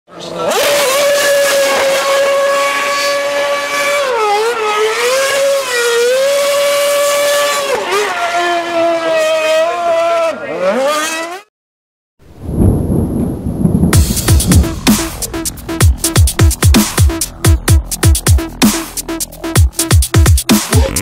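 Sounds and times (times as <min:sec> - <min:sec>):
race car engine revving: 0:00.1 - 0:11.5, 0:13.9 - 0:21.0.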